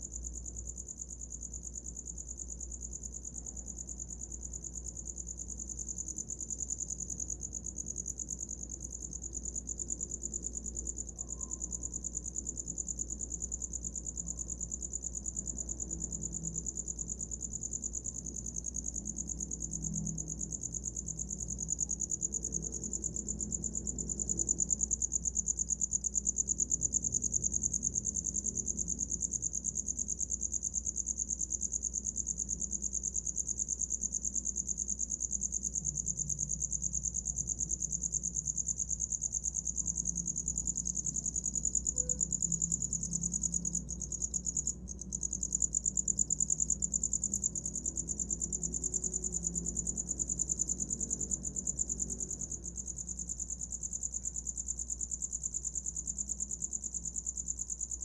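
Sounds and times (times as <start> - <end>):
cricket chirping: 0.0 - 58.0
faint low hum: 0.0 - 58.0.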